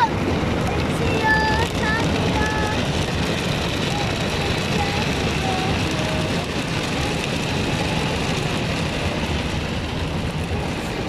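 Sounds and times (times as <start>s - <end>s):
car wash machinery washing: 0.0s - 11.0s.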